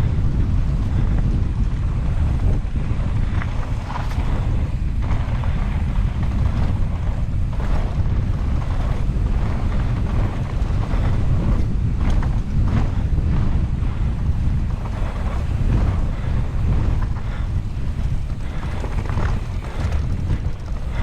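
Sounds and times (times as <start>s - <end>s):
bike knocks and rattles: 0.0s - 21.0s
wind buffeting microphone: 0.0s - 21.0s.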